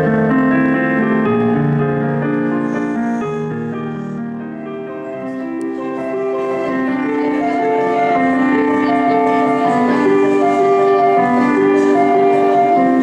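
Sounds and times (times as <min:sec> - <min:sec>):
electronic keyboard slow melody: 0:00.0 - 0:13.0.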